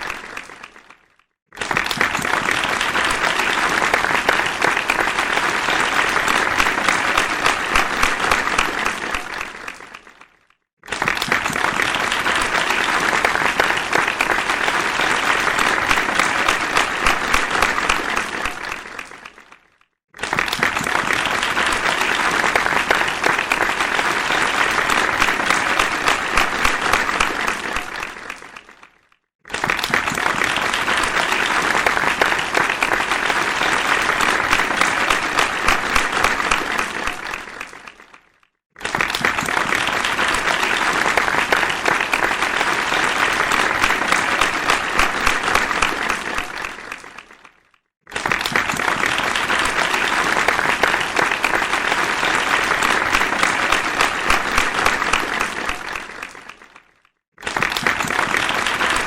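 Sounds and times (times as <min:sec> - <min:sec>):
crowd applause: 0:00.0 - 0:59.0.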